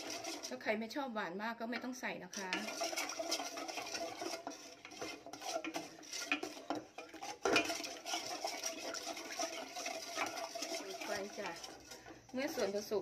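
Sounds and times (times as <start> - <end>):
wooden spatula scraping saucepan: 0.0 - 0.7, 1.8 - 13.0.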